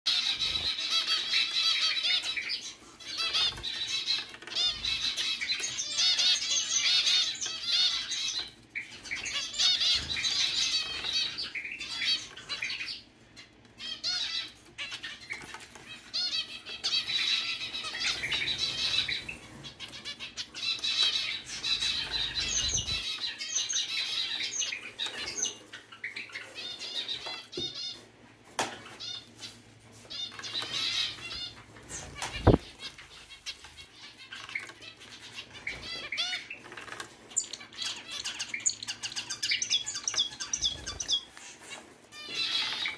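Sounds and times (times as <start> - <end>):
finches chirping: 0.1 - 28.0, 28.9 - 42.9.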